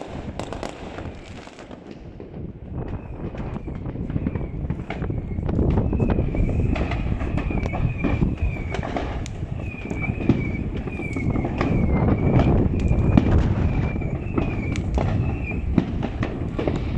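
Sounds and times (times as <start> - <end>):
firecrackers popping and banging: 0.0 - 16.9.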